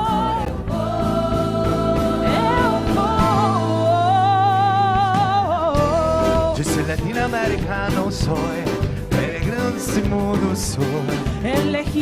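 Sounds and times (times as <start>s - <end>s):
voices singing worship song: 0.0s - 12.0s
instrumental accompaniment: 0.1s - 12.0s.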